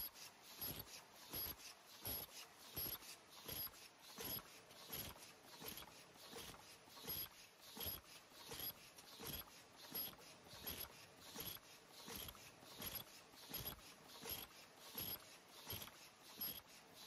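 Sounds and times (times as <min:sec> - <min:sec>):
machine mechanical strokes: 0:00.0 - 0:17.0.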